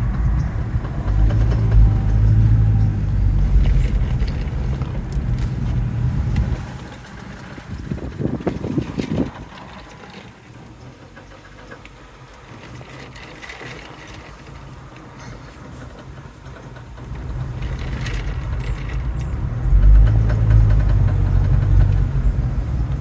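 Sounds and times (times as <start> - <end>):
car knocking while turning: 0.0 - 13.1, 13.9 - 23.0
low car running noise: 0.0 - 23.0.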